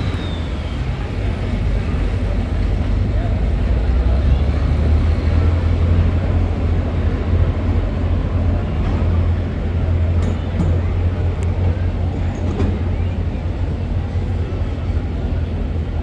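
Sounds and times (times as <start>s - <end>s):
large engine rumbling: 0.0s - 16.0s.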